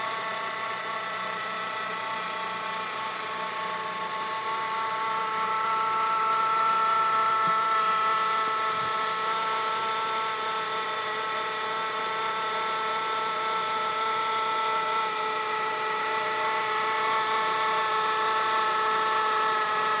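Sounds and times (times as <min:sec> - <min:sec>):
belt drive whine: 0:00.0 - 0:20.0.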